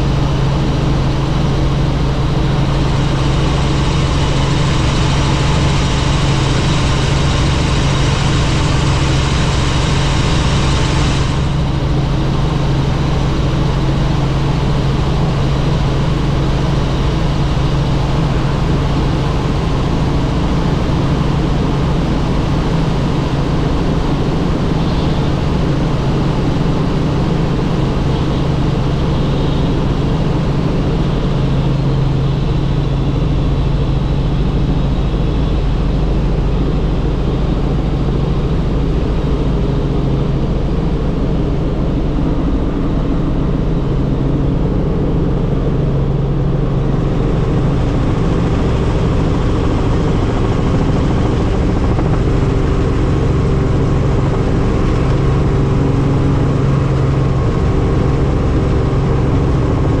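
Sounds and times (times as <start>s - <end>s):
helicopter engine and rotor: 0.0s - 60.0s.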